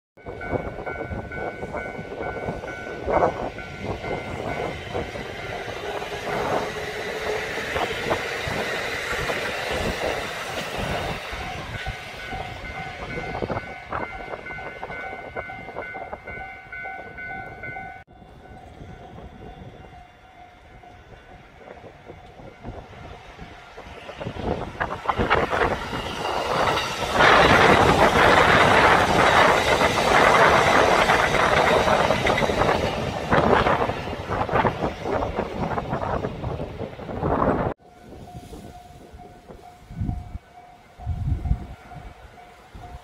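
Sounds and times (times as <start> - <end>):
electric train whining tones: 0.2 - 43.0.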